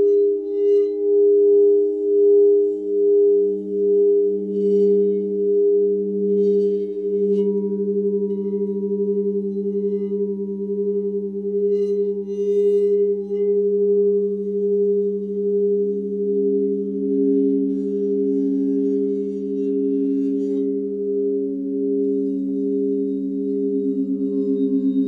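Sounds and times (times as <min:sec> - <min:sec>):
layered pure tone drone: 0:00.0 - 0:25.0
low pulsing tone: 0:00.0 - 0:25.0.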